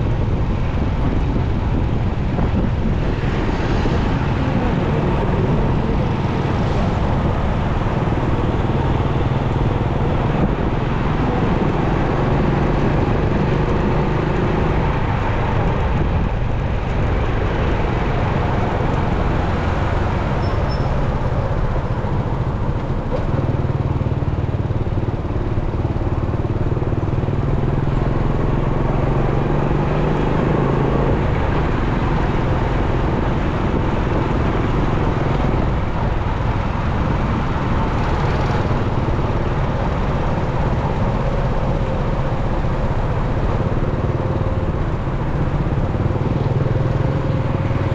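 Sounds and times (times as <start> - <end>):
motorcycle engine running: 0.0 - 47.9
road noise rushing: 0.0 - 47.9.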